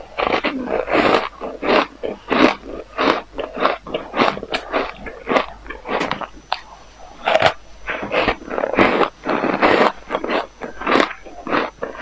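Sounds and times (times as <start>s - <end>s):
chewing crunchy ice: 0.0s - 12.0s.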